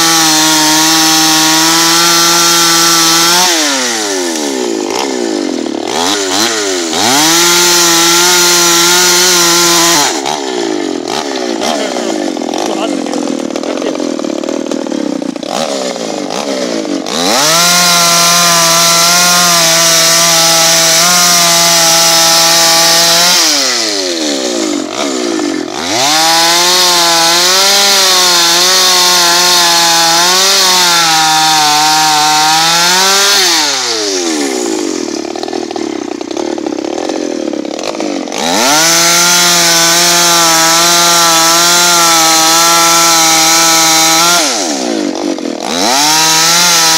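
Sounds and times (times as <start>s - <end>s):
chainsaw cutting wood: 0.0s - 46.9s
chainsaw revving: 0.0s - 46.9s.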